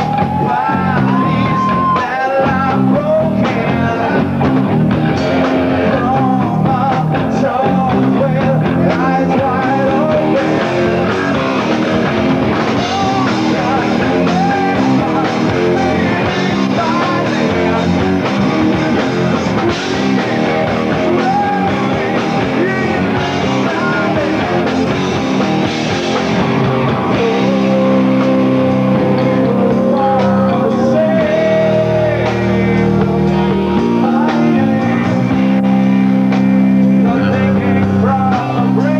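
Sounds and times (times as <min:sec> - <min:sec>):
man singing: 0:00.0 - 0:04.5, 0:05.7 - 0:11.7, 0:12.5 - 0:35.7, 0:36.9 - 0:38.9
bass guitar: 0:00.0 - 0:38.9
drums: 0:00.0 - 0:38.9
electric guitars: 0:00.0 - 0:38.9.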